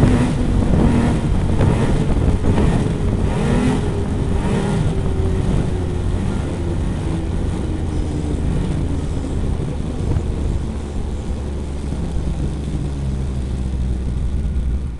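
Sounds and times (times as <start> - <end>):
engine winding down: 0.0 - 14.9
steady rushing noise: 0.0 - 14.9.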